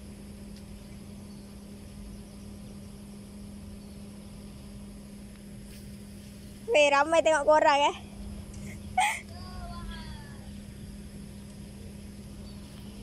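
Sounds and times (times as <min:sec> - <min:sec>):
constant low hum: 0:00.0 - 0:13.0
low rumble and hiss: 0:00.0 - 0:13.0.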